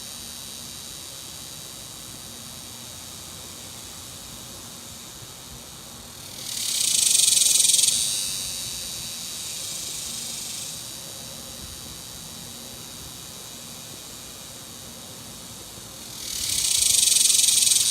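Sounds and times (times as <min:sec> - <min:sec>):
cicada buzzing: 0:00.0 - 0:17.9.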